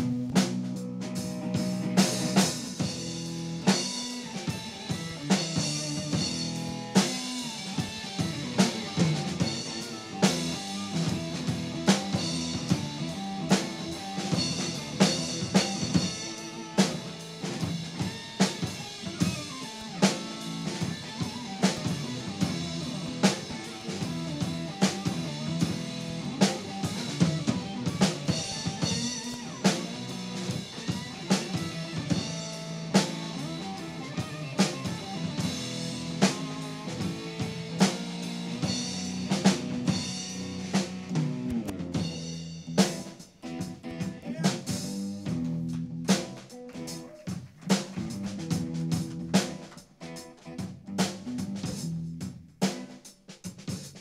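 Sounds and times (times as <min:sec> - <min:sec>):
drum kit beat: 0:00.0 - 0:54.0
electric guitar through amplifier: 0:01.2 - 0:51.6.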